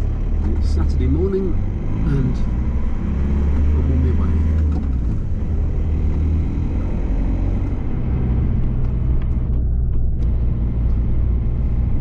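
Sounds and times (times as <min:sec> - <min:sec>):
low engine rumble: 0:00.0 - 0:12.0
road noise: 0:00.0 - 0:12.0.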